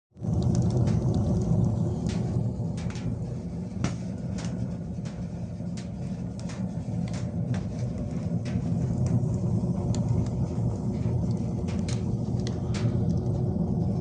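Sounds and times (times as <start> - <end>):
low fire rumble: 0.1 - 14.0
wood fire crackling: 0.2 - 14.0.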